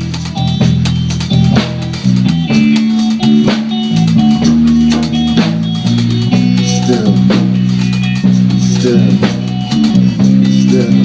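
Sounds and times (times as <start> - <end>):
bass guitar: 0.0 - 11.0
drum kit steady beat: 0.0 - 11.0
electric guitar: 0.0 - 11.0.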